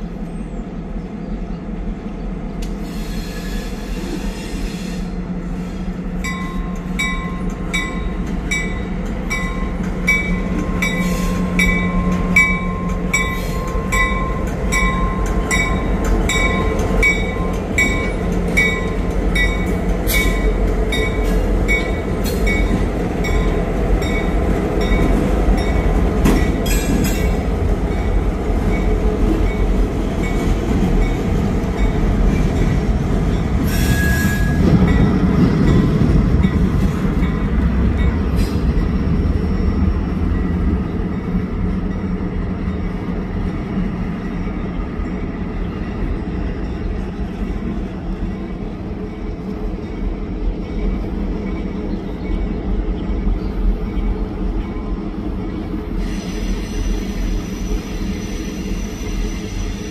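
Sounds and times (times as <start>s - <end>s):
freight train rumble: 0.0s - 59.9s.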